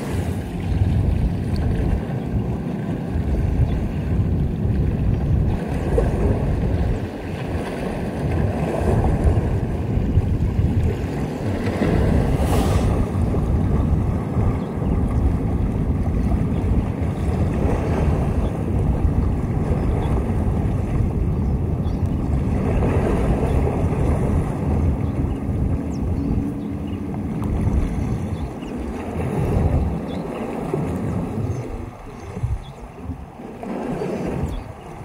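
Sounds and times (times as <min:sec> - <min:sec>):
wind buffeting the microphone: 0:00.0 - 0:35.0.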